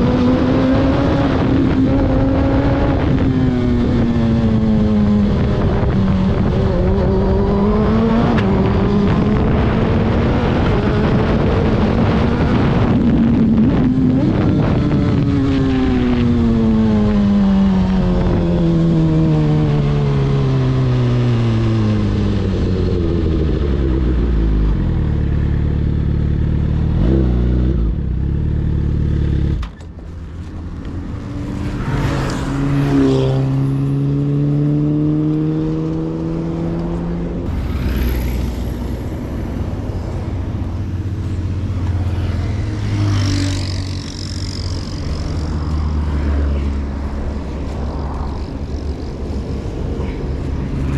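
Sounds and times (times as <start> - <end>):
wind noise: 0.0 - 25.5, 29.5 - 50.9
motorcycle engine: 0.0 - 50.9.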